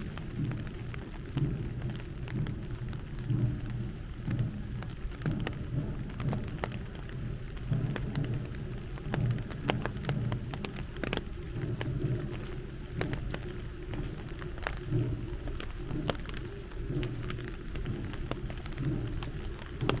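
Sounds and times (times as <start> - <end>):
heavy rain falling: 0.0 - 20.0
low rumble: 0.0 - 20.0.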